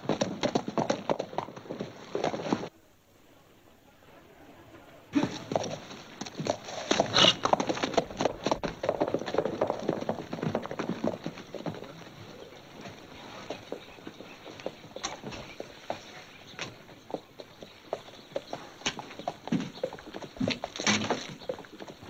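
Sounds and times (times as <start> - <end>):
horse hoofbeats on dirt: 0.0 - 2.7, 5.2 - 22.0.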